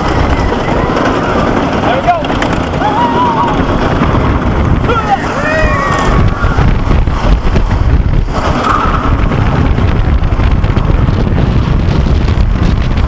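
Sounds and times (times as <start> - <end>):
roller coaster rumbling on track: 0.0 - 13.0
wind on microphone: 0.0 - 13.0.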